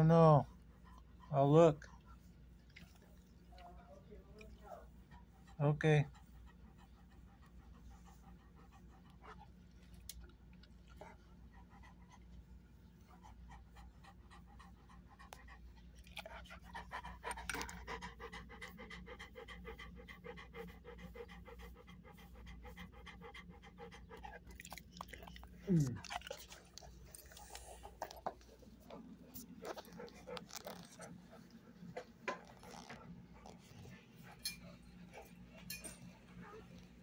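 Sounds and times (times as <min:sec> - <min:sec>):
dog panting: 0:00.0 - 0:37.0.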